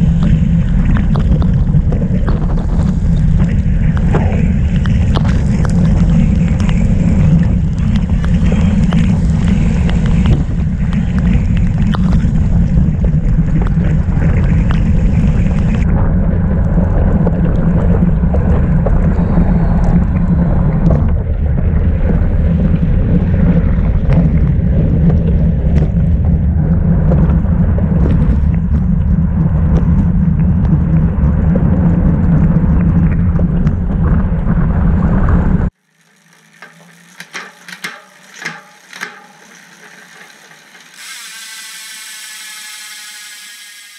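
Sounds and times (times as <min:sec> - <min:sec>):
wind buffeting microphone: 0:00.0 - 0:35.8.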